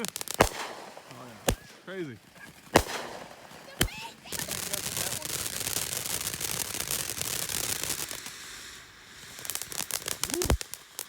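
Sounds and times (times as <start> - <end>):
firework fountain crackling: 0.0 - 11.0.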